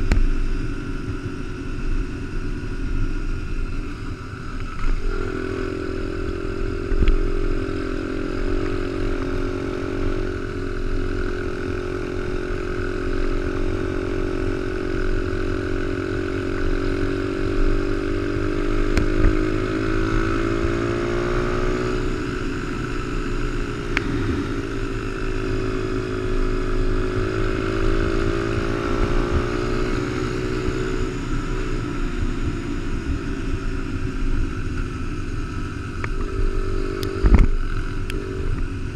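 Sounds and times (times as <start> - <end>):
motorbike engine cruising: 0.0 - 38.9.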